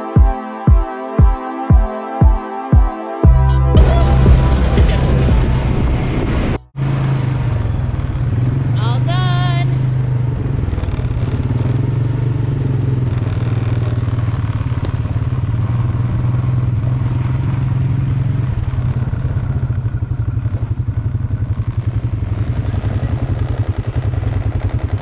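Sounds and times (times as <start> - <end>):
quad bike engines running: 3.7 - 25.0.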